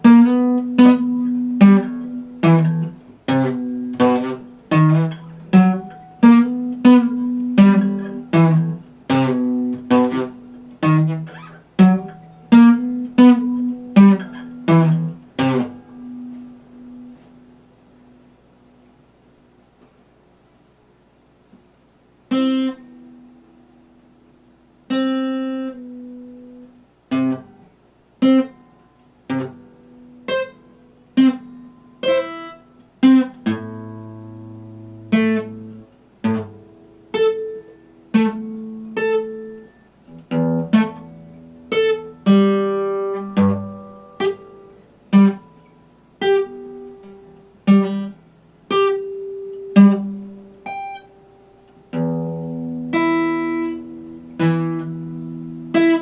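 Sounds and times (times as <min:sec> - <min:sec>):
acoustic guitar strummed: 0:00.0 - 0:18.2, 0:21.7 - 0:56.0.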